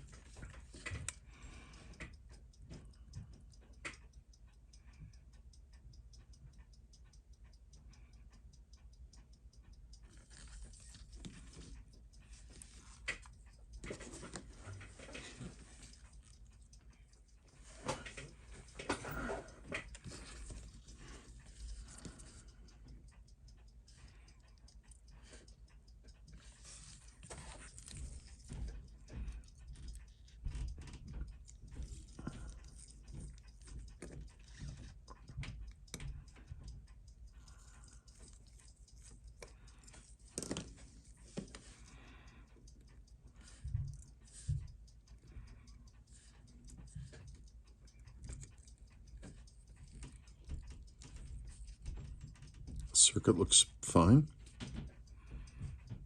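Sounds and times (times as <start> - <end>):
small tools clicking and tapping: 0.0 - 4.2, 9.6 - 56.0.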